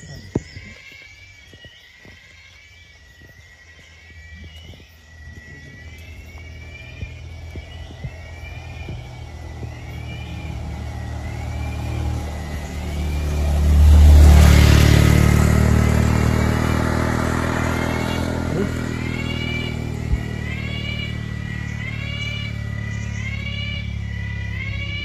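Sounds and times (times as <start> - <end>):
vehicle engine passing by: 3.8 - 25.0.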